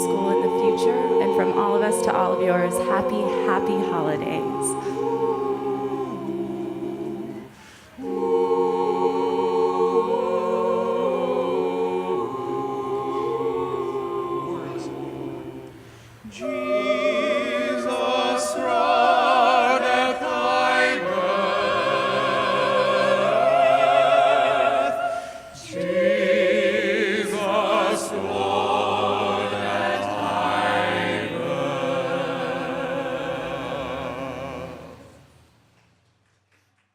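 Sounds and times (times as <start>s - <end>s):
choir singing with vibrato: 0.0s - 35.6s.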